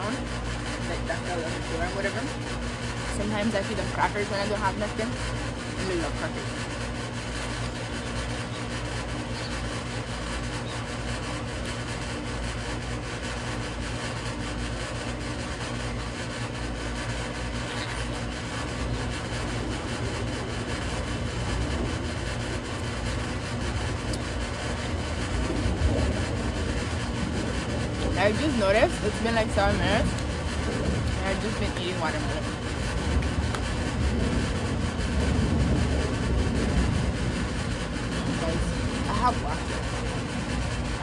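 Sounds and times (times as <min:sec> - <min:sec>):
air conditioner humming: 0:00.0 - 0:41.0.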